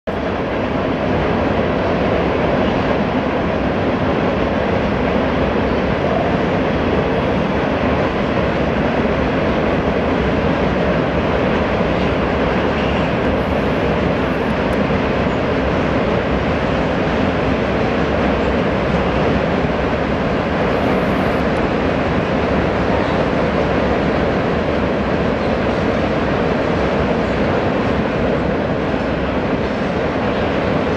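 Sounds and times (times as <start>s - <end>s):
freight train rumbling over bridge: 0.1s - 30.9s.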